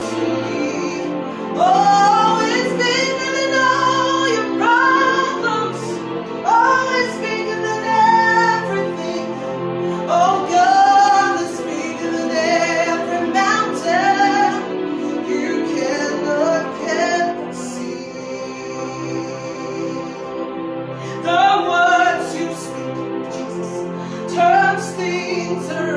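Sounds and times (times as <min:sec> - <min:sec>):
held accompaniment chords: 0:00.0 - 0:25.9
woman singing worship song: 0:00.0 - 0:25.9.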